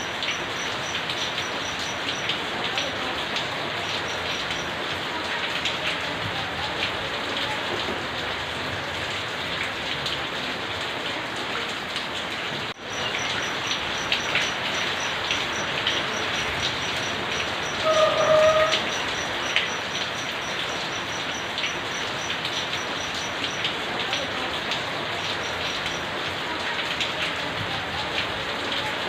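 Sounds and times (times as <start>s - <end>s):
raindrops tapping close by: 0.0s - 29.0s
steady rain falling: 0.0s - 29.0s.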